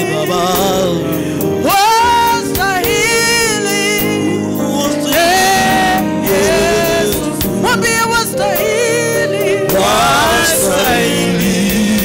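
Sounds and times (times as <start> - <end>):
sustained instrumental backing: 0.0 - 12.0
woman singing gospel: 0.0 - 12.0.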